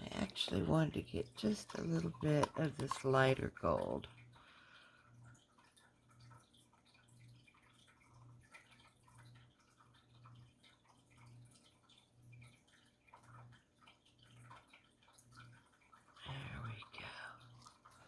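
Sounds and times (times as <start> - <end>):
paint trickling and dripping: 0.0 - 18.0.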